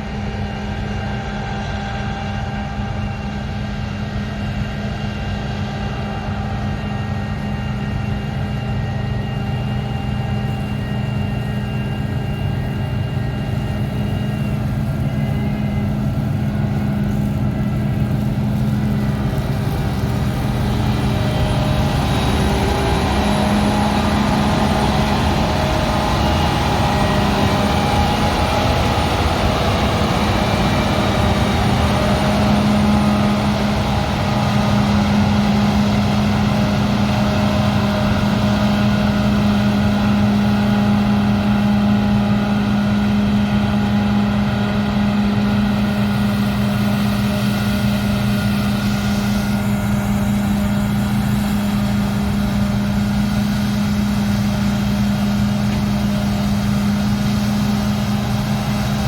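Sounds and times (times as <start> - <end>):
diesel machinery engine hum: 0.0 - 59.0.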